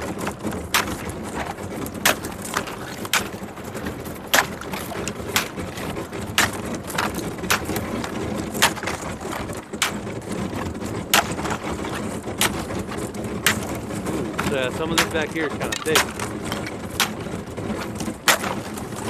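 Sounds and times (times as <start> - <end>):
ice cracking against boat: 0.0 - 19.0.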